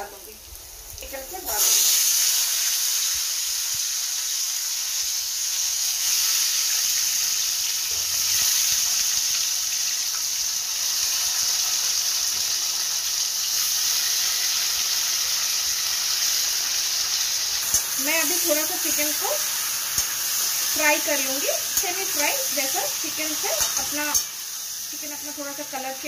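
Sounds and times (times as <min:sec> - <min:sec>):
chicken frying in hot oil: 0:00.0 - 0:26.0.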